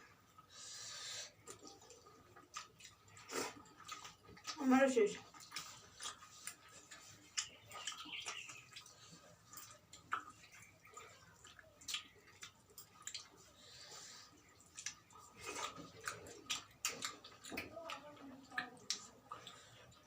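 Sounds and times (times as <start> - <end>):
faint eating noises: 0.0 - 20.0.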